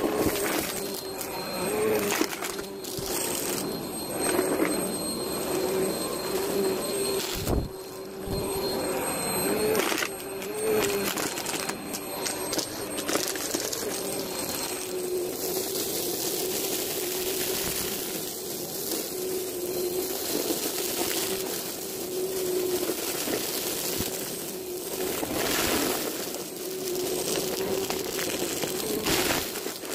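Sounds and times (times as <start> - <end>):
debris rattling up vacuum: 0.0 - 29.9
vacuum cleaner motor whine: 0.0 - 29.9.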